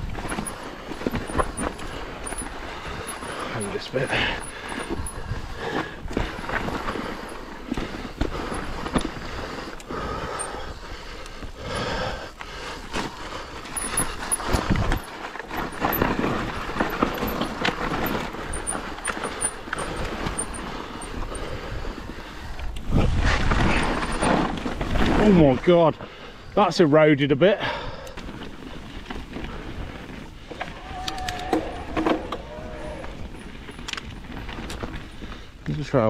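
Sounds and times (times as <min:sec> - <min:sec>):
bike knocking and rattling: 0:00.0 - 0:26.7, 0:27.6 - 0:36.0
bike tyres rolling on dirt: 0:00.0 - 0:36.0.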